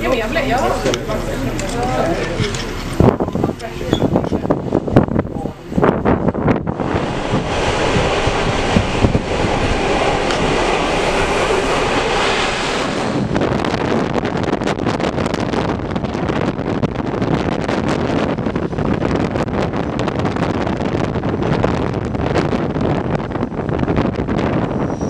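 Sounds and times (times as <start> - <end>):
wind on microphone: 0.0 - 25.0
train running at speed: 4.4 - 25.0.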